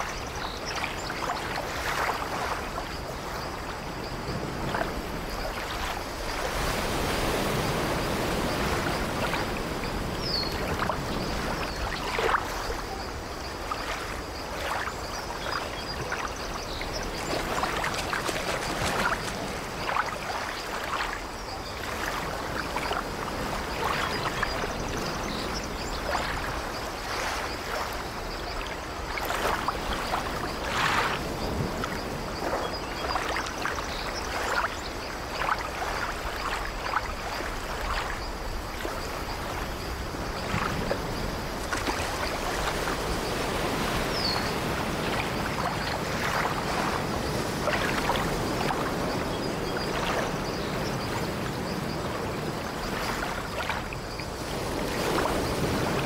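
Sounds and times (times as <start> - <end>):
small waves breaking: 0.0 - 56.0.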